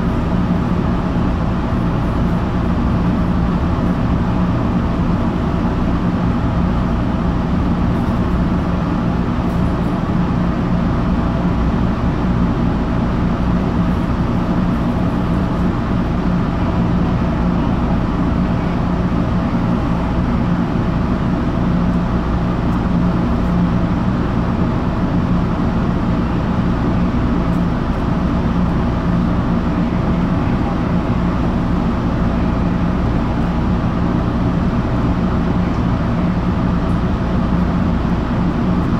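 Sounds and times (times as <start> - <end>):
subway car humming: 0.0 - 38.9.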